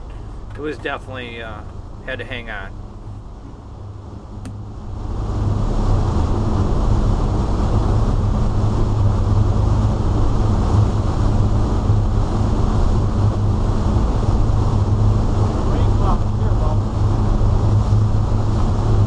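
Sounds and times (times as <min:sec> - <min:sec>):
boat engines droning: 0:00.0 - 0:19.0
rush of wind and water: 0:00.0 - 0:19.0.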